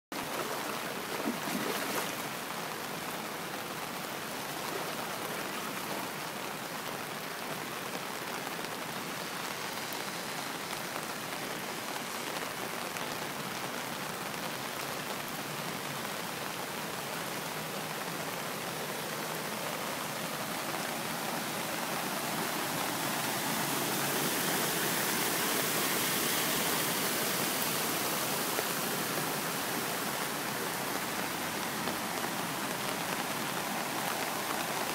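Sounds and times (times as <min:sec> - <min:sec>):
floodwater rushing: 0:00.1 - 0:34.9.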